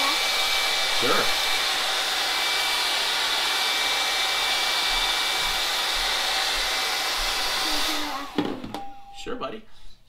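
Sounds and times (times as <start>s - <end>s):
hair dryer running: 0.0s - 8.9s.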